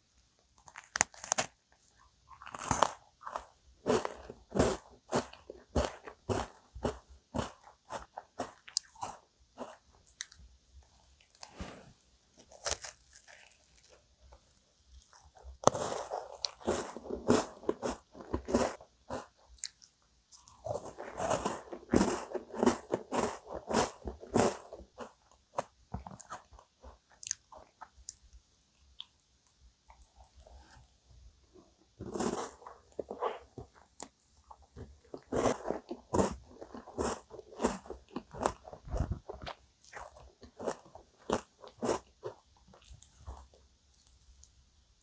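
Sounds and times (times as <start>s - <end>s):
biscuit biting and crunching: 0.6s - 11.6s, 12.3s - 29.2s, 32.0s - 44.5s.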